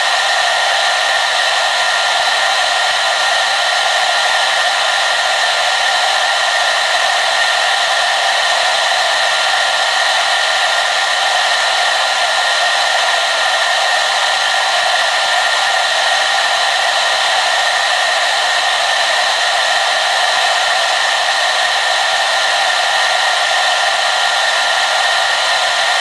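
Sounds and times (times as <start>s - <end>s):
hair dryer blowing air: 0.0s - 26.0s.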